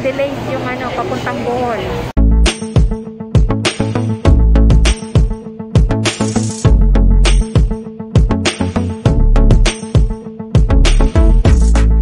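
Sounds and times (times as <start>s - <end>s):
upbeat music with heavy bass: 2.2s - 12.0s.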